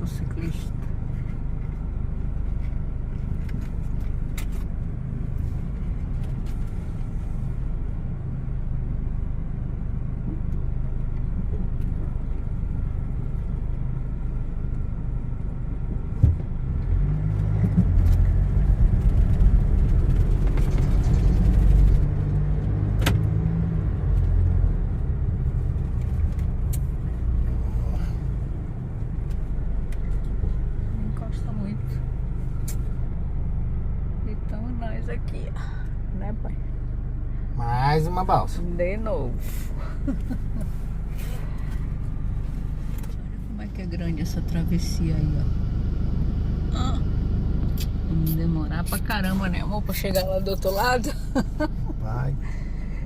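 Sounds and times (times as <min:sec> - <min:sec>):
vehicle engine rumble: 0:00.0 - 0:53.0.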